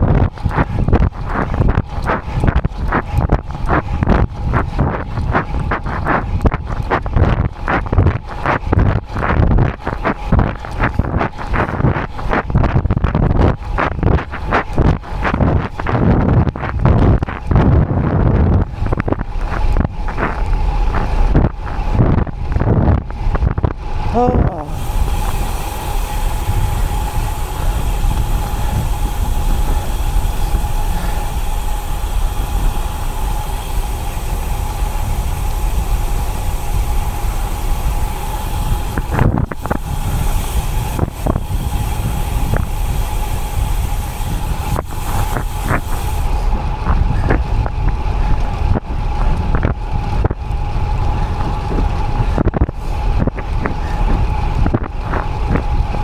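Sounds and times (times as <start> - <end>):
faint steady whine: 0.0 - 56.0
wind rumble on microphone: 0.0 - 56.0.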